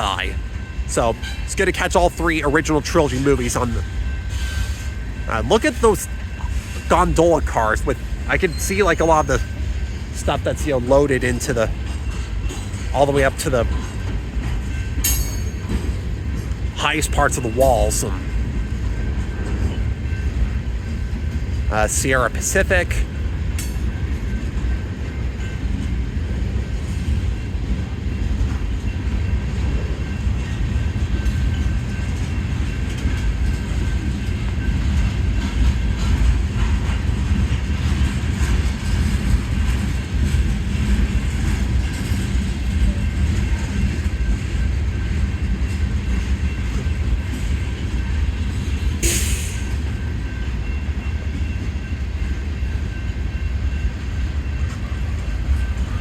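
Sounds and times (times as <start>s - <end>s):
freight cars rumbling: 0.0s - 56.0s.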